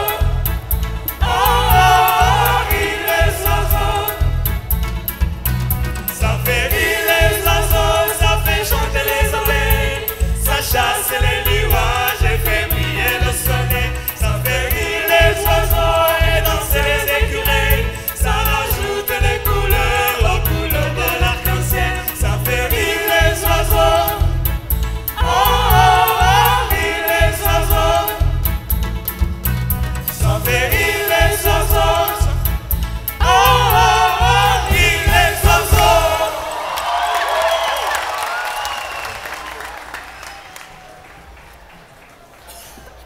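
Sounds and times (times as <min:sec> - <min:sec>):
choir singing upbeat song: 0:00.0 - 0:05.3, 0:05.9 - 0:28.8, 0:30.0 - 0:37.7
band with pulsing bass beat: 0:00.0 - 0:36.4.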